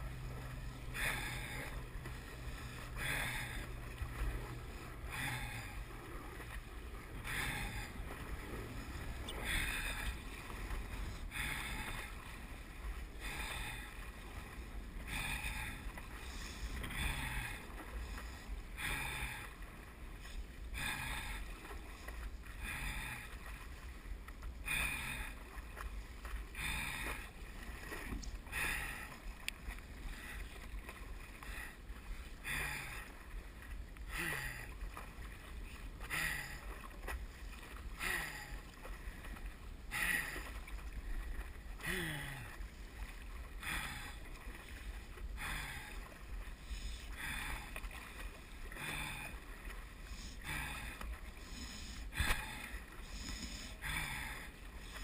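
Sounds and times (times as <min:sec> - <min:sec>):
paddle pulling through water: 0:00.0 - 0:55.0.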